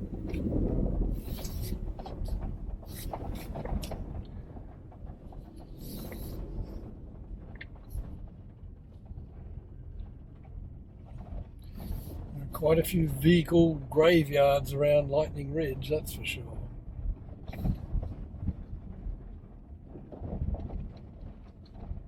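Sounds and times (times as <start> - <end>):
vehicle rumbling on dirt track: 0.0 - 22.0.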